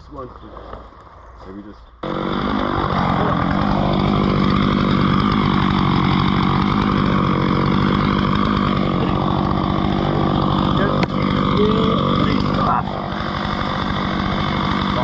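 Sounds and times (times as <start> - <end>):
two-stroke chainsaw running: 2.0 - 15.0.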